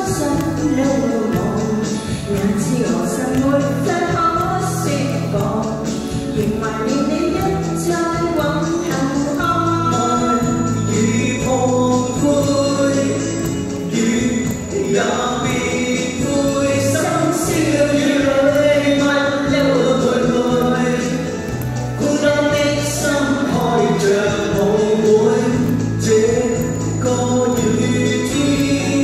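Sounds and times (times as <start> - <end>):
instrumental accompaniment: 0.0 - 29.0
people singing a pop song: 0.0 - 29.0.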